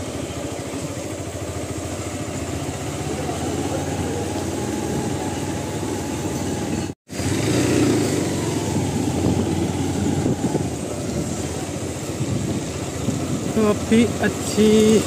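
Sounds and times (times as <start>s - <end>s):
motorcycle engines at low speed: 0.0s - 15.0s
street traffic noise: 0.0s - 15.0s.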